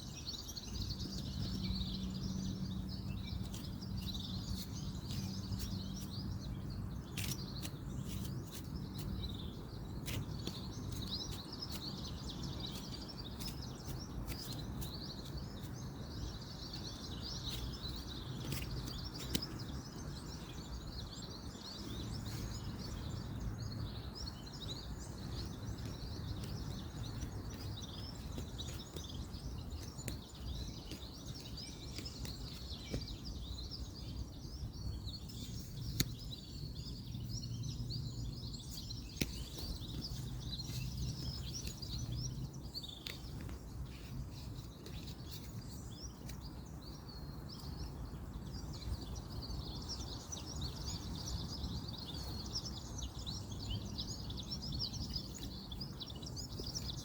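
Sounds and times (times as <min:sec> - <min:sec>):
birds chirping: 0:00.0 - 0:57.0
distant road traffic: 0:00.8 - 0:57.0.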